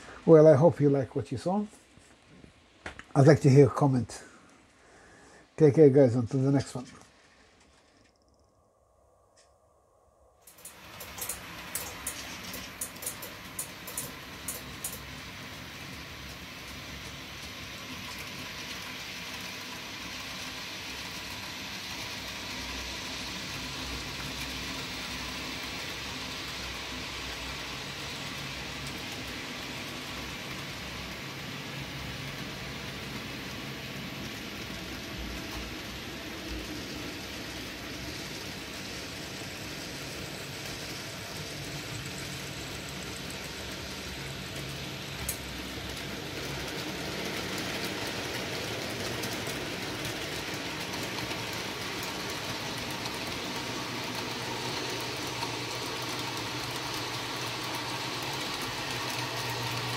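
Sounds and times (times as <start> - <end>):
model train motor hum: 10.5 - 59.9.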